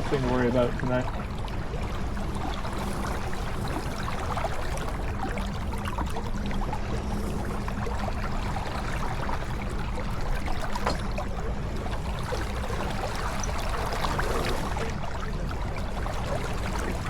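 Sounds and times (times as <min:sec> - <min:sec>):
water rushing along boat hull: 0:00.0 - 0:17.0.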